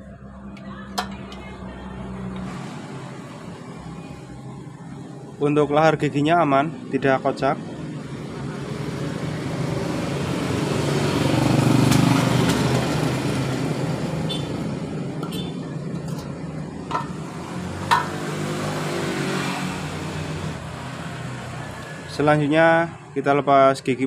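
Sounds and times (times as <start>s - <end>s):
vehicle passing by: 0.0s - 23.3s.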